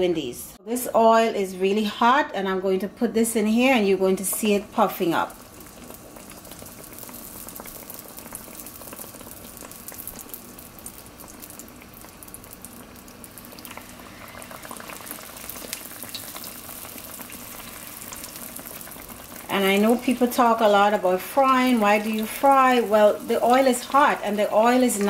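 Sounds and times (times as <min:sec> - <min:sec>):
dough sizzling in hot oil: 0:04.0 - 0:25.0.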